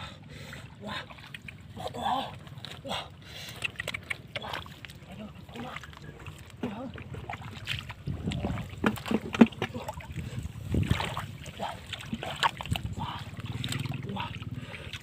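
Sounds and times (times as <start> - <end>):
splashing in shallow muddy water: 0.0 - 15.0.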